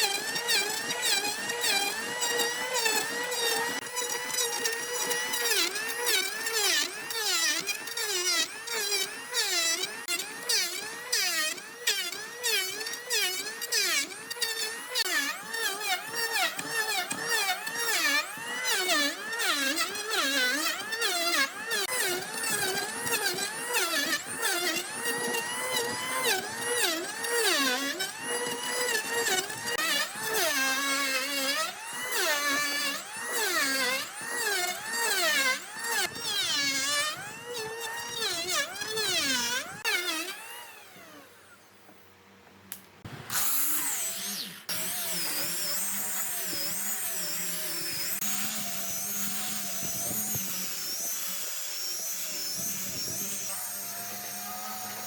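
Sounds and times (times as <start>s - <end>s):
another power tool running: 0.0s - 41.8s, 43.0s - 55.0s
power tool motor whining: 0.0s - 55.0s.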